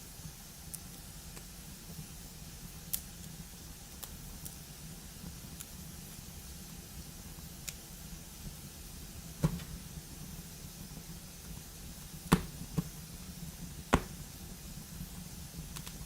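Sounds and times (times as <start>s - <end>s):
fire crackling pops: 0.2s - 16.0s.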